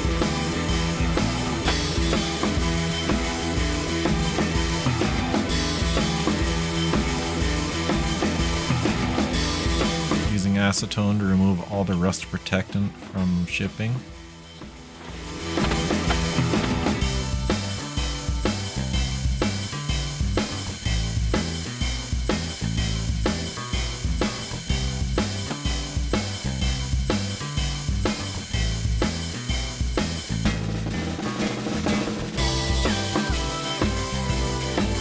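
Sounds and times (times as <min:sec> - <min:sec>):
bass line: 0:00.0 - 0:35.0
drum-kit beat: 0:00.0 - 0:35.0.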